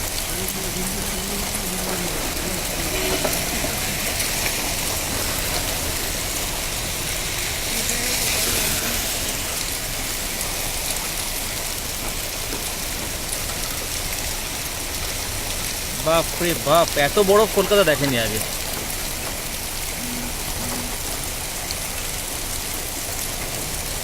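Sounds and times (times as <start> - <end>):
hailstones ticking on surfaces: 0.0 - 20.0, 20.8 - 24.0
heavy rain hissing: 0.0 - 24.0.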